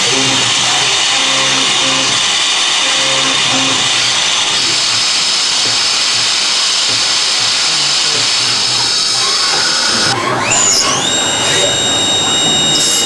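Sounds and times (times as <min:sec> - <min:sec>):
lathe cutting noise with whine: 0:00.0 - 0:13.0.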